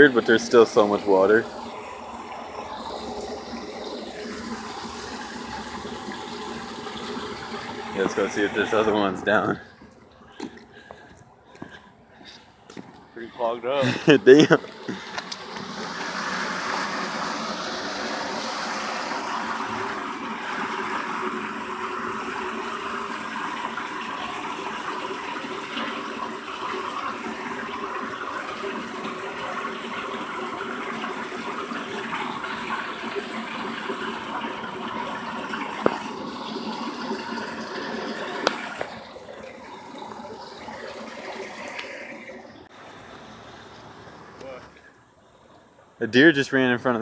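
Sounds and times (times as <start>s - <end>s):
floodwater gushing into storm drain: 0.0s - 47.0s.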